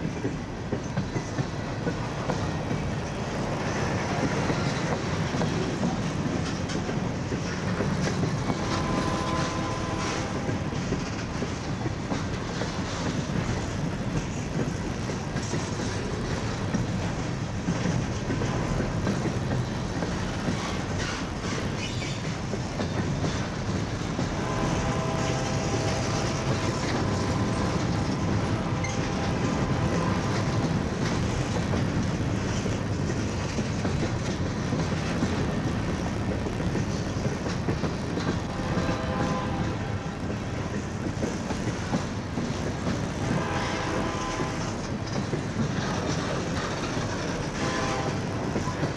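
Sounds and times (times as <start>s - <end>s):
clickety-clack over rail joints: 0.0s - 48.9s
freight train cars rolling: 0.0s - 48.9s
train squeals: 0.0s - 48.9s.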